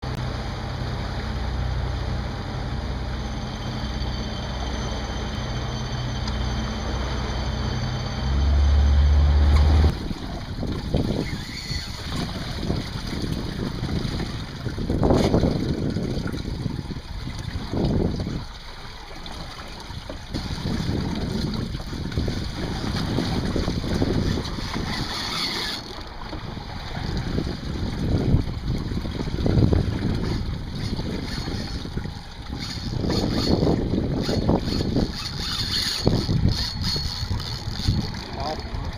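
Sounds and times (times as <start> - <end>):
boat engine humming: 0.0 - 38.9
wind and water noise: 0.0 - 38.9.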